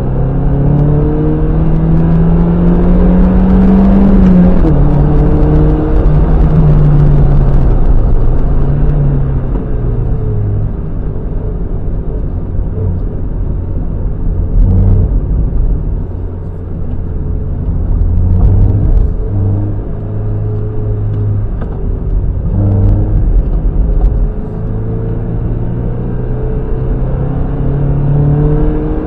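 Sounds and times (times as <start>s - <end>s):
car engine revving through gears: 0.0s - 10.8s, 14.2s - 29.0s.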